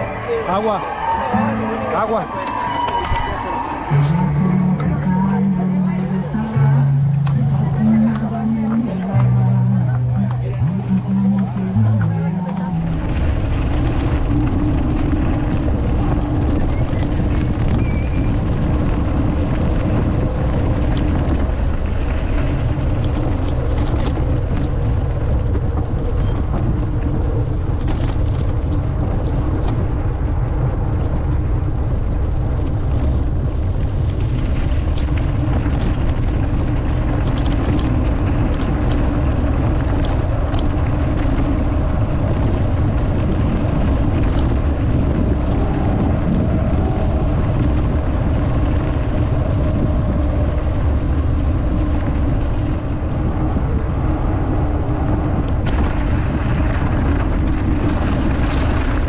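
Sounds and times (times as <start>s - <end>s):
mountain bike rolling rumble: 0.0s - 59.0s
wind noise on microphone: 0.0s - 59.0s.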